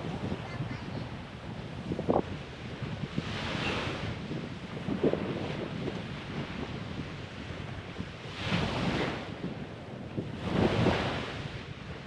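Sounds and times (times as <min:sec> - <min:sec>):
small waves washing ashore: 0:00.0 - 0:12.0
wind buffeting microphone: 0:00.0 - 0:12.0.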